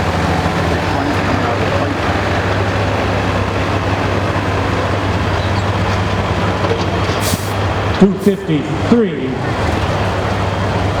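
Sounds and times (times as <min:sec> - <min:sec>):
tractor engine rumbling: 0:00.0 - 0:11.0.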